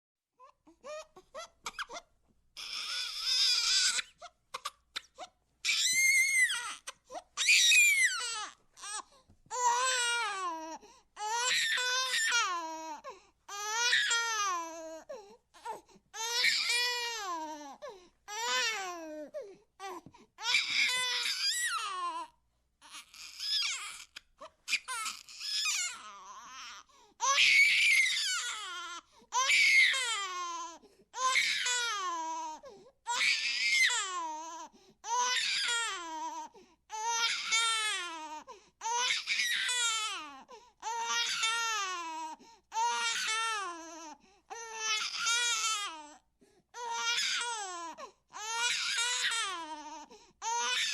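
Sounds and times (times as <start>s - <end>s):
baby crying: 2.6s - 46.2s, 46.8s - 50.9s.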